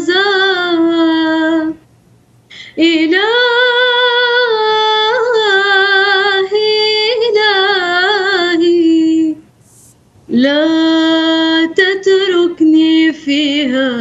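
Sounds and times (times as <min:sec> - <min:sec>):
woman singing unaccompanied: 0:00.0 - 0:01.8, 0:02.5 - 0:09.5, 0:10.3 - 0:14.0.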